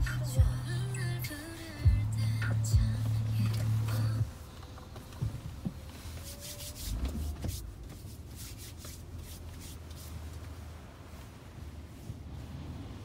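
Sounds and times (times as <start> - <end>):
car wash machine hum: 0.0 - 13.0.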